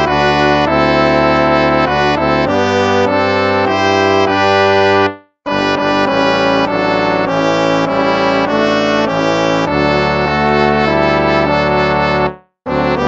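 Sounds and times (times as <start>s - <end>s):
brass hymn music: 0.0s - 13.0s.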